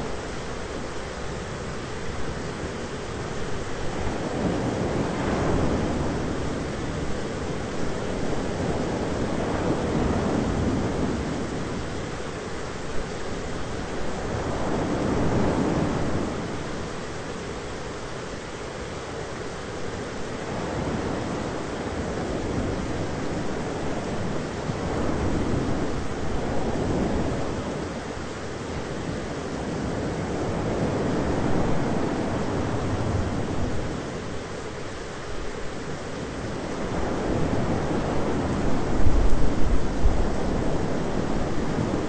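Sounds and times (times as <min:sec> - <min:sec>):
rain: 0:00.0 - 0:42.0.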